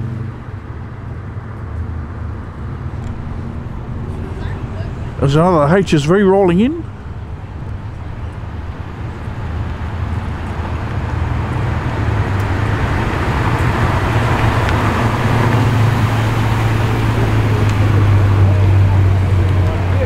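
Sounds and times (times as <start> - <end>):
car engine passing slowly: 0.0 - 20.0.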